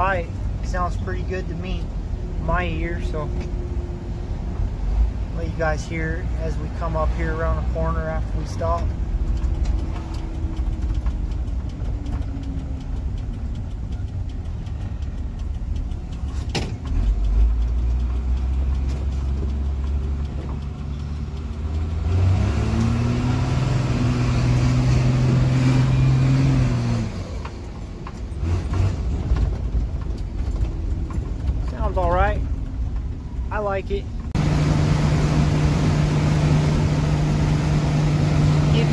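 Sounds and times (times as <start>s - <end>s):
diesel truck exhaust: 0.0s - 31.6s, 34.2s - 38.9s.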